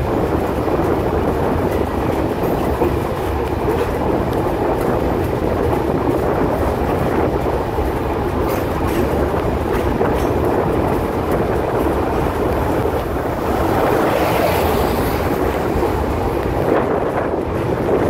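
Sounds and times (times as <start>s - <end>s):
passenger train rumbling on rails: 0.0s - 18.0s.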